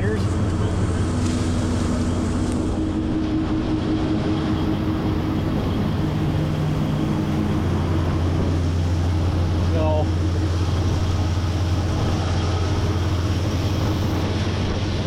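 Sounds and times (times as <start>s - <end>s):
combine harvester droning: 0.0s - 15.0s
humming tones: 0.2s - 15.0s.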